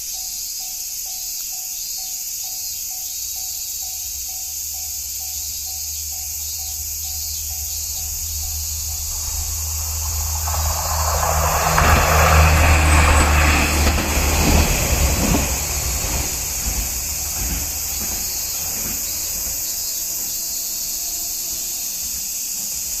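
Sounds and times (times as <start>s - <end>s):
diesel railcar passing: 0.0s - 23.0s
steady high hiss: 0.0s - 23.0s.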